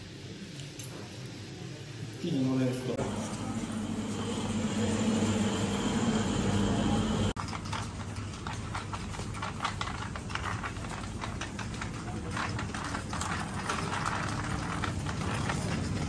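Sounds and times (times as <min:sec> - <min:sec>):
low steady supermarket hum: 0:00.0 - 0:16.0.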